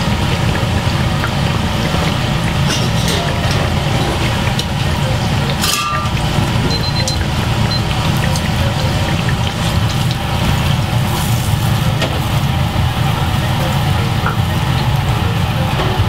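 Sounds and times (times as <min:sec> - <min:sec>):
oil sizzling and bubbling in fryer: 0:00.0 - 0:16.0.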